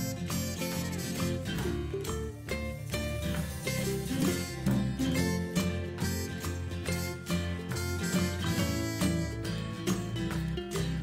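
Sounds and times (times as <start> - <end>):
plucked guitar music with beat: 0.0 - 11.0.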